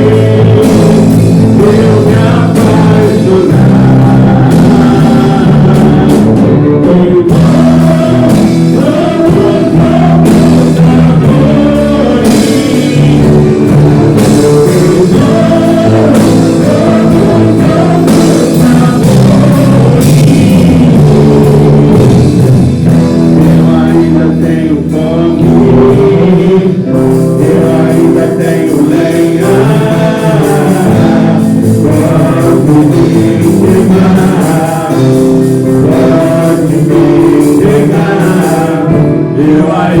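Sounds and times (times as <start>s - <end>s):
person singing: 0.0s - 40.0s
worship band playing: 0.0s - 40.0s.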